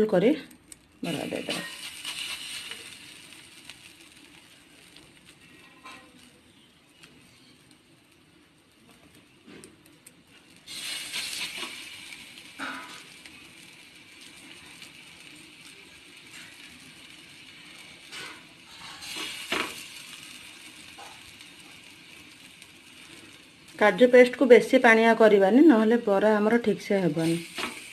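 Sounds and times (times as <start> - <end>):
patties sizzling on hot pan: 0.0 - 27.9.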